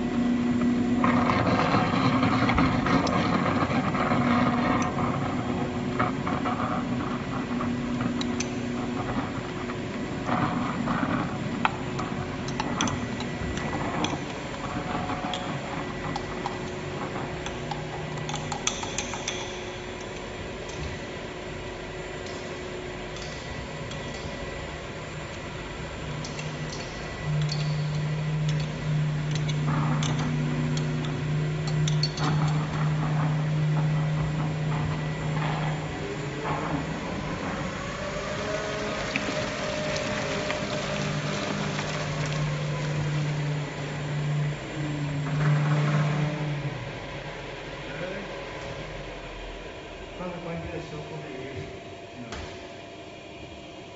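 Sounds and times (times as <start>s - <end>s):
deep even hum: 0.0s - 52.6s
mixer machine hum: 0.0s - 53.9s.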